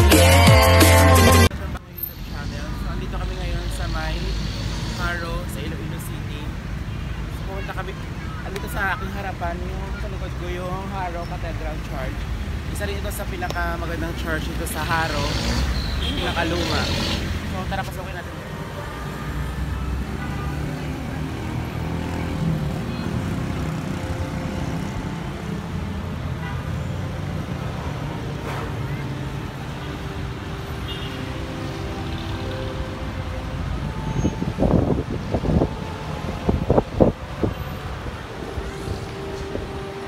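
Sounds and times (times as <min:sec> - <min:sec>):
city street traffic rumble: 0:00.0 - 0:40.0.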